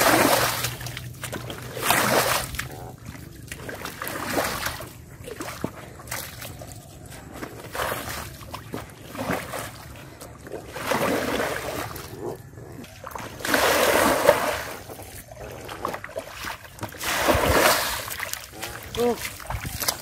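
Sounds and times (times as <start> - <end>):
muddy water splashing: 0.0 - 20.0.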